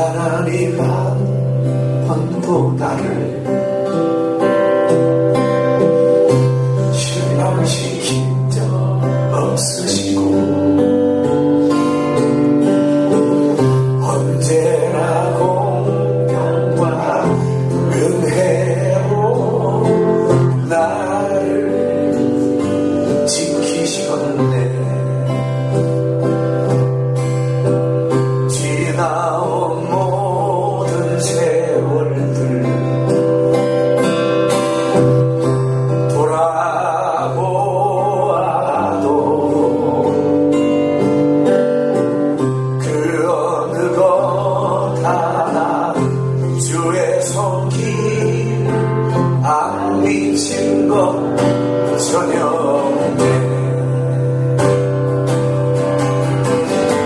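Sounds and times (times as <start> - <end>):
man singing: 0.0 - 4.6, 6.2 - 26.8, 27.5 - 33.9, 34.8 - 41.3, 42.3 - 55.0
strummed acoustic guitar: 0.0 - 57.0.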